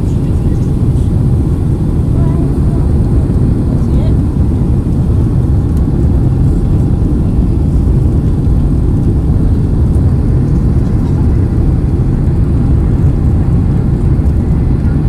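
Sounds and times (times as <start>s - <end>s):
airplane engines rumbling: 0.0s - 15.0s.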